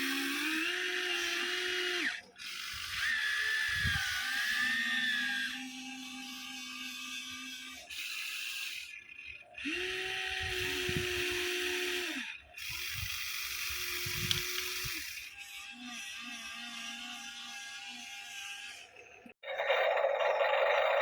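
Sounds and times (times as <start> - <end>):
electric gear motors whirring: 0.0 - 21.0.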